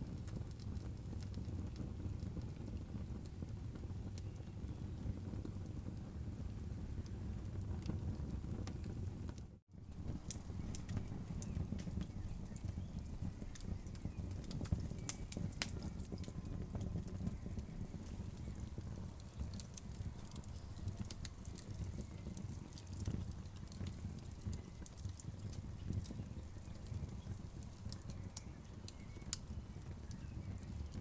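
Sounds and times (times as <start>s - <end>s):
burning logs crackling: 0.0s - 31.0s
fire popping and snapping: 0.0s - 31.0s.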